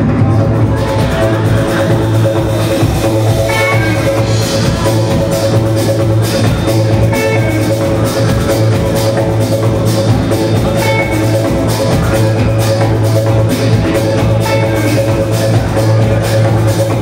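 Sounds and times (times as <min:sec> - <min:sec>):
live band playing groove: 0:00.0 - 0:17.0.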